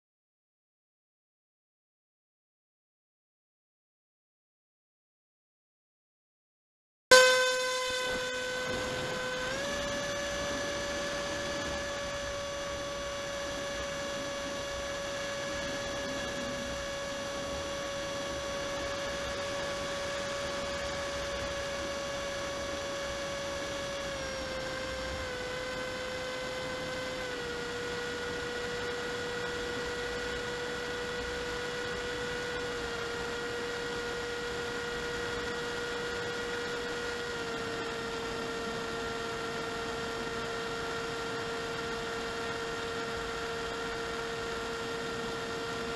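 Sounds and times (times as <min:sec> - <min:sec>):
electric motor and propeller whine: 0:07.1 - 0:45.9.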